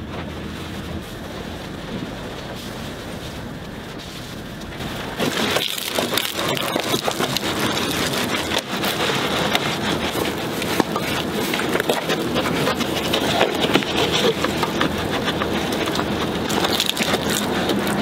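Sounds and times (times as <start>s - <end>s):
wash mitt rubbing car: 0.0s - 18.0s
water splashing: 0.0s - 18.0s.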